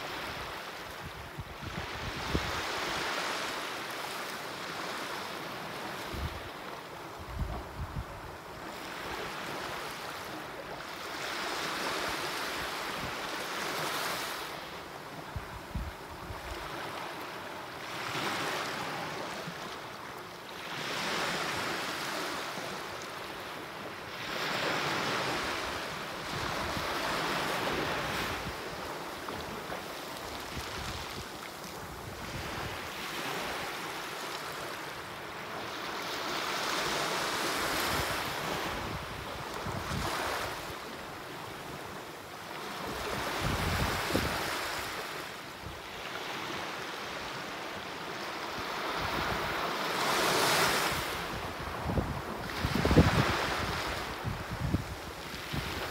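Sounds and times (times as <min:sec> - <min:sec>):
small waves breaking on sand: 0:00.0 - 0:55.9.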